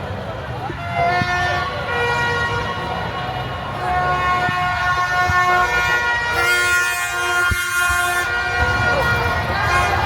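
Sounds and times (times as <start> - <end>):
horns blowing long tones: 0.4 - 10.0.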